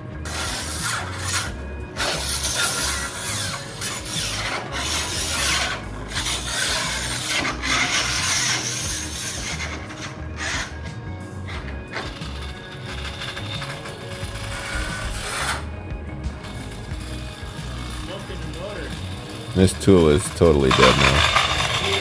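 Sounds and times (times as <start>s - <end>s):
angle grinder cutting metal: 0.0s - 22.0s.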